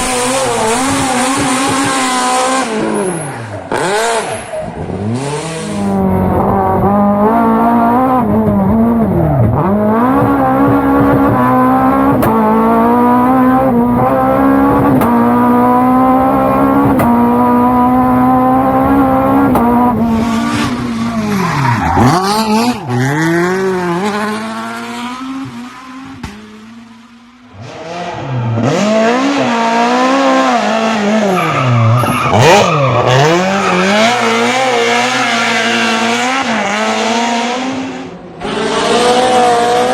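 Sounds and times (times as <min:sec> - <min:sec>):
rally car engine revving hard: 0:00.0 - 0:39.9.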